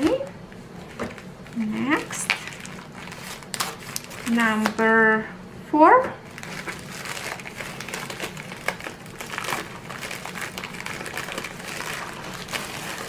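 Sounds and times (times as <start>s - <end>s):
packaging crinkling and rustling: 0.8s - 4.8s, 6.3s - 13.0s.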